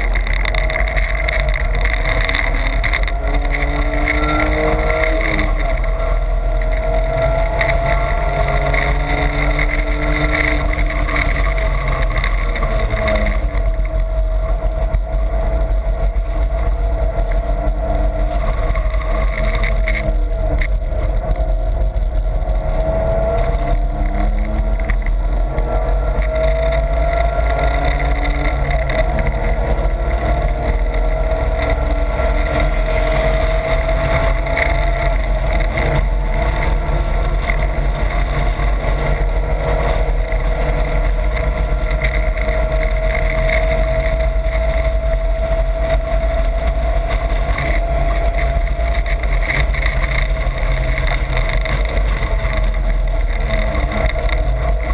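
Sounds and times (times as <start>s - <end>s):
car engine under load: 0.0s - 54.9s
wind and road noise: 0.0s - 54.9s.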